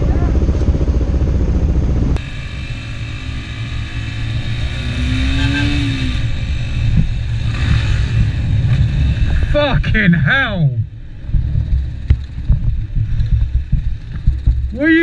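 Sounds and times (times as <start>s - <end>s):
dirt bike engine running: 0.0s - 15.0s
wind rumble: 0.0s - 15.0s.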